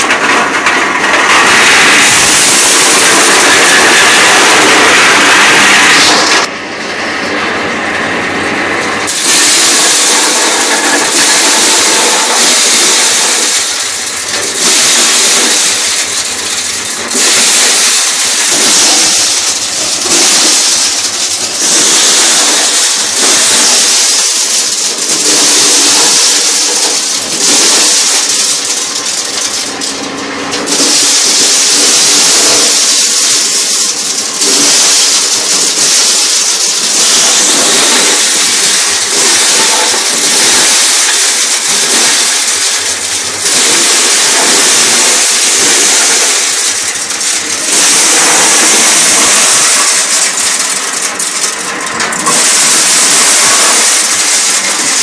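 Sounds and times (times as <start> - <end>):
corn sheller rattling: 0.0 - 6.5, 9.0 - 55.0.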